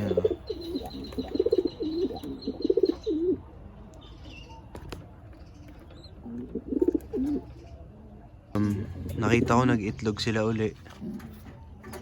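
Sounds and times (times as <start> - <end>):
pigeons cooing: 0.0 - 4.2, 5.4 - 10.1, 10.8 - 12.0.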